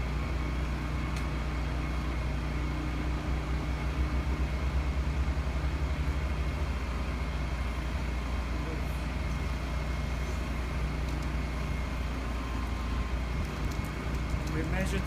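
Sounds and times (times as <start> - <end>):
generator humming: 0.0 - 15.0.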